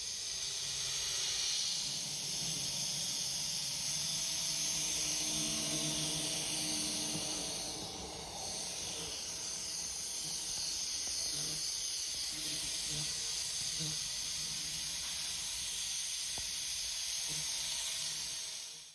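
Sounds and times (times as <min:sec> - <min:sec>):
model locomotive hissing: 0:00.0 - 0:18.9.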